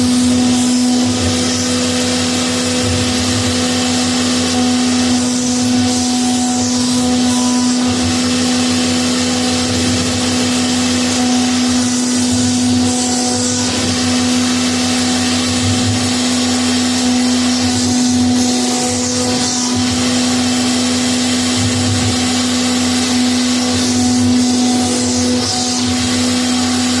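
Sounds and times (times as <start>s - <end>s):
router spindle humming and hissing: 0.0s - 27.0s.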